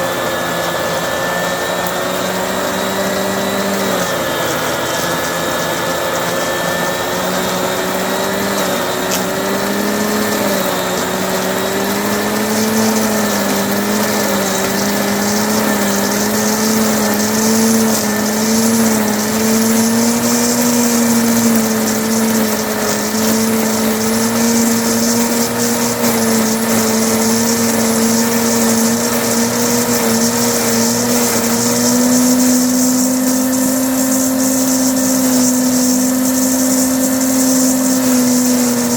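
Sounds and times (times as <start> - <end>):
electric leaf mulcher shredding hay: 0.0 - 38.9.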